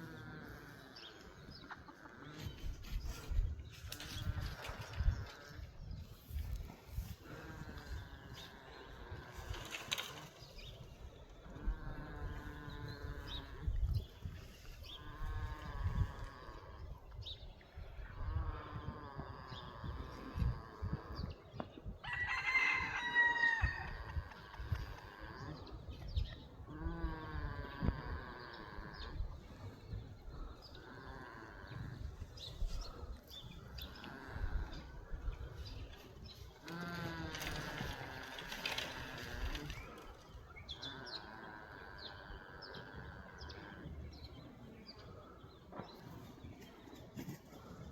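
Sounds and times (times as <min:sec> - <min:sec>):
goat snoring: 0:00.0 - 0:09.6, 0:11.4 - 0:14.1, 0:14.8 - 0:17.0, 0:18.0 - 0:21.4, 0:24.4 - 0:46.0.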